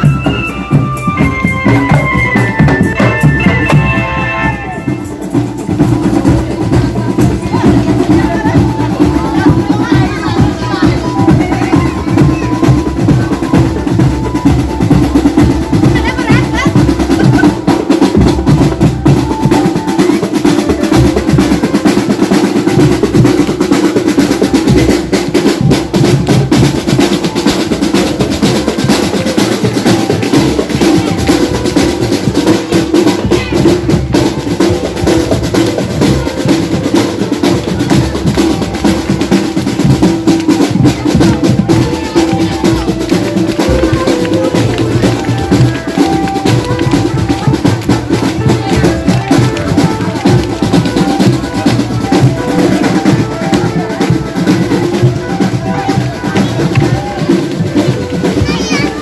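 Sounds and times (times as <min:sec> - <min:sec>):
bass drum beats: 0:00.0 - 0:59.0
snare drum rolls: 0:00.0 - 0:59.0.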